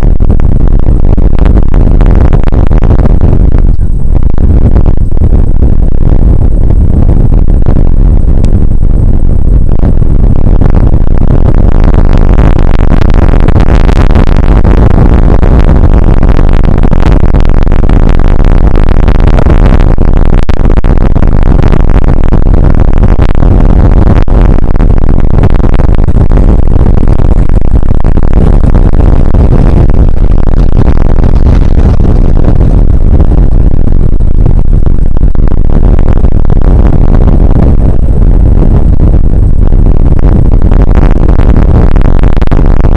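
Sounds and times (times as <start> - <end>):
wind on microphone: 0.0 - 42.9.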